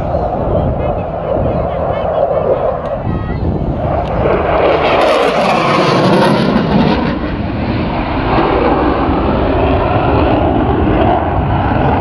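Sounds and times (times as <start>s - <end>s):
jet engine flying past: 0.0s - 12.0s.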